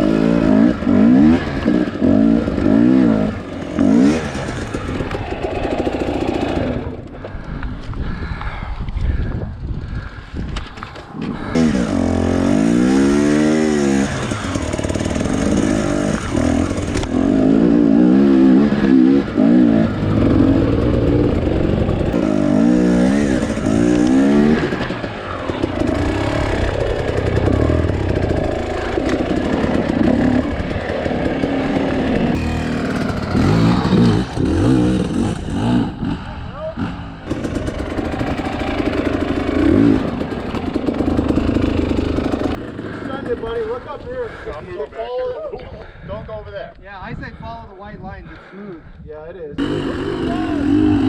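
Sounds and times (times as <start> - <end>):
dirt bike engine revving: 0.0 - 7.2, 11.2 - 44.4, 49.6 - 51.0.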